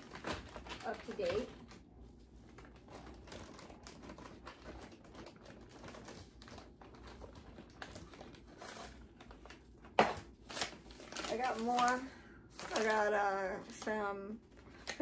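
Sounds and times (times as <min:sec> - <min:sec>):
plastic packages crinkling: 0:00.0 - 0:15.0.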